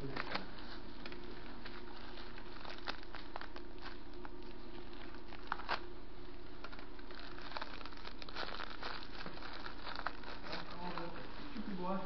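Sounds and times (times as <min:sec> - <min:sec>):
crackers crackling: 0:00.0 - 0:11.7
plastic wrapper crinkling: 0:00.0 - 0:11.9.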